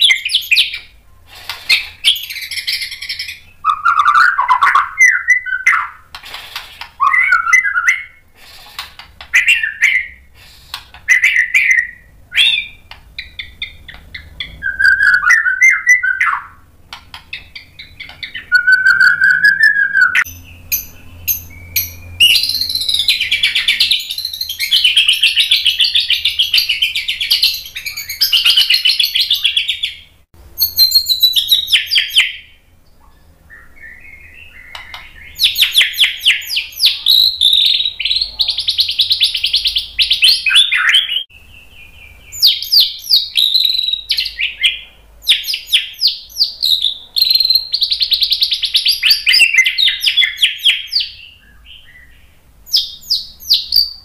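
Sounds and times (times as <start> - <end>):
bird singing whistled phrases: 0.0 - 0.9, 1.7 - 6.0, 7.0 - 8.2, 9.3 - 10.3, 11.1 - 16.6, 17.3 - 32.6, 33.5 - 54.0.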